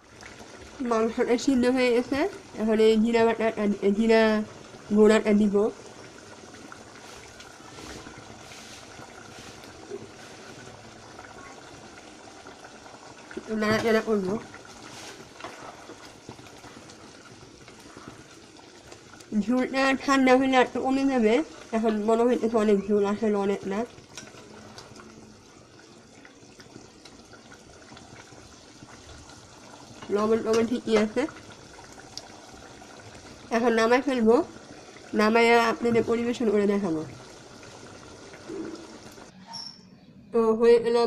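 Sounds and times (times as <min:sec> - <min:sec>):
curry simmering and bubbling: 0:00.0 - 0:39.7.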